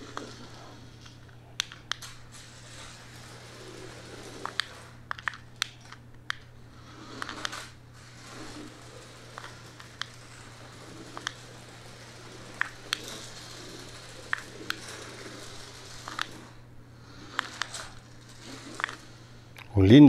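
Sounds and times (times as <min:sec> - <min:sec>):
toy car motor whirring: 0:00.0 - 0:19.5.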